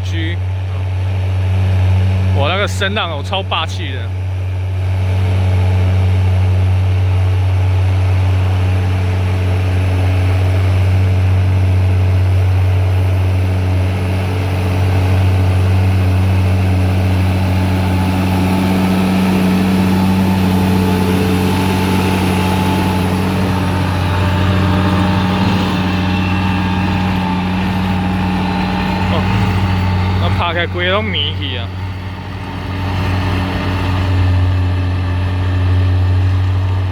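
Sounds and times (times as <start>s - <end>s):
tractor diesel engine drone: 0.0s - 36.9s.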